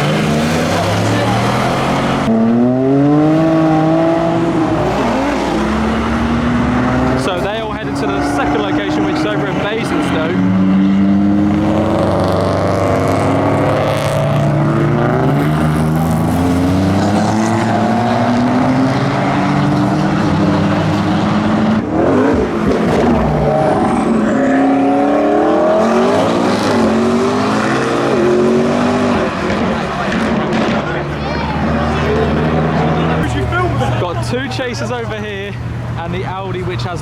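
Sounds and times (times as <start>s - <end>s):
car engines accelerating: 0.0s - 37.0s.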